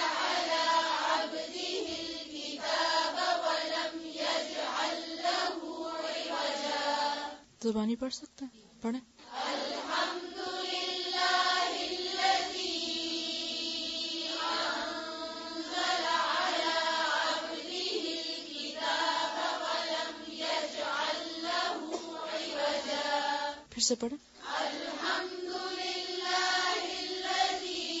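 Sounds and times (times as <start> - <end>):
melodic chanted recitation: 0.0 - 7.4, 9.2 - 23.7, 24.4 - 28.0.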